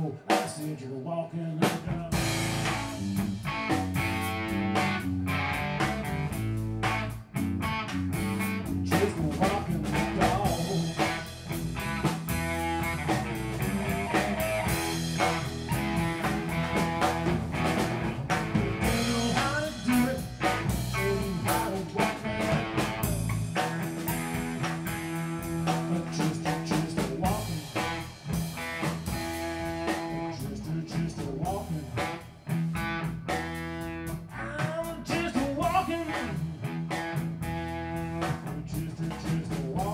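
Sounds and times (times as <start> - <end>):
drum kit playing: 1.6 - 39.9
electric guitar playing: 2.1 - 38.8.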